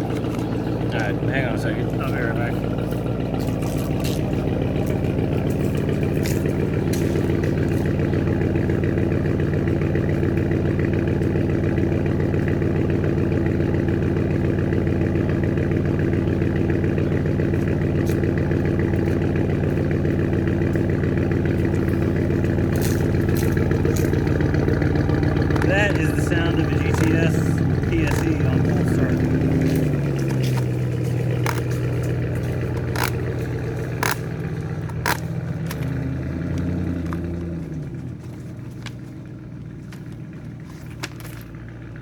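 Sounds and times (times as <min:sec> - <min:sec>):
car exhaust idling: 0:00.0 - 0:42.0.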